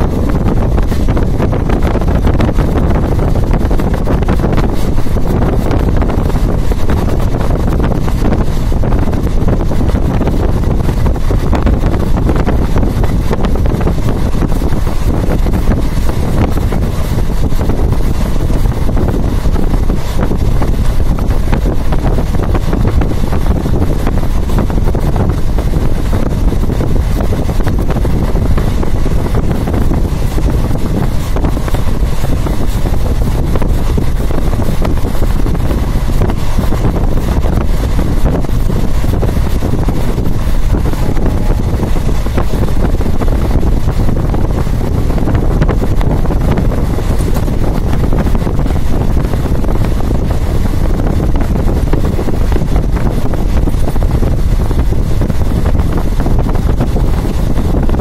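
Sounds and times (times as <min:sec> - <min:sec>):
train running noise: 0:00.0 - 0:58.0
wind buffeting microphone: 0:00.0 - 0:58.0.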